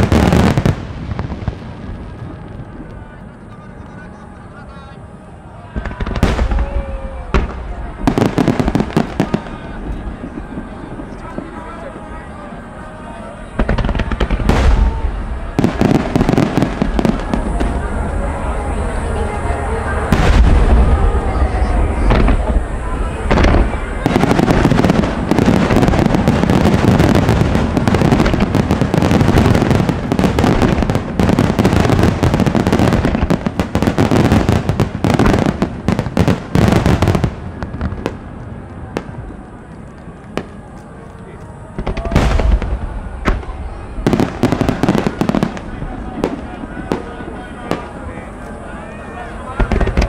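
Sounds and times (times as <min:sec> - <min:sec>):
fireworks bursting and crackling: 0:00.0 - 0:04.9, 0:05.7 - 0:50.0.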